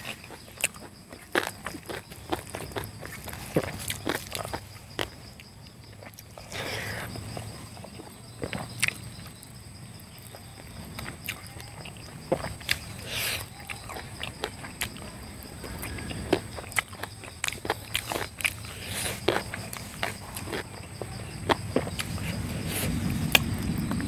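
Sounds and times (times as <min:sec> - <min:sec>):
high insect drone: 0:00.0 - 0:24.0
wet chewing: 0:00.0 - 0:24.0.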